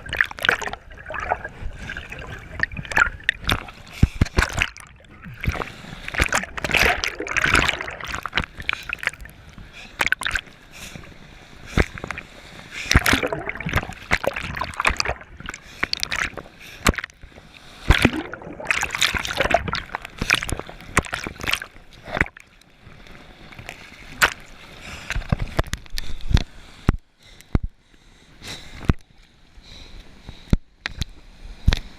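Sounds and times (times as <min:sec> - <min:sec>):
water splashing and sloshing: 0:00.0 - 0:27.2.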